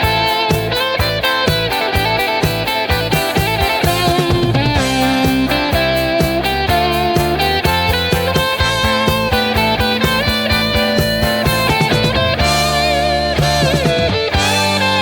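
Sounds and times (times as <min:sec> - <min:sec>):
driving drum beat: 0:00.0 - 0:15.0
electric guitar lead: 0:00.0 - 0:15.0.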